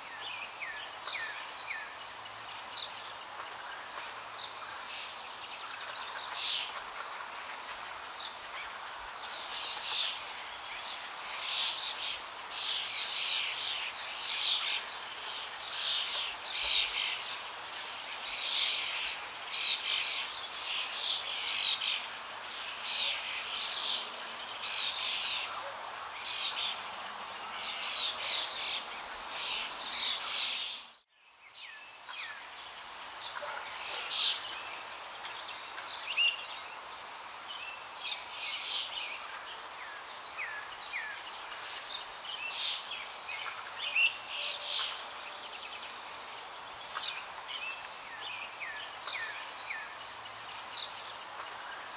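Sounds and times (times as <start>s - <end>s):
small birds chirping: 0.0s - 51.9s
steady outdoor hiss: 0.0s - 51.9s.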